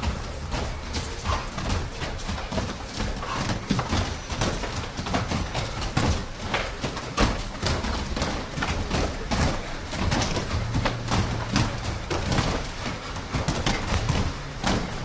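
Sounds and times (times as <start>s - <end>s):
bare feet thudding on mats: 0.0s - 15.0s.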